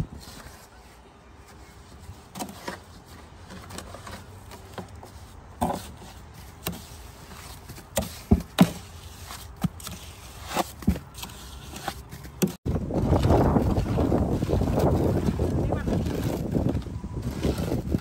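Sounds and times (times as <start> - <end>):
shovel scraping concrete mix: 1.6 - 18.0.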